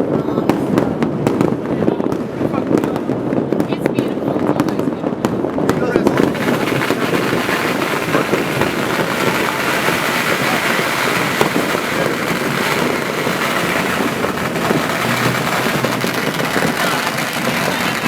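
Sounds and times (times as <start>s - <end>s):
fireworks and firecrackers crackling: 0.0s - 18.0s.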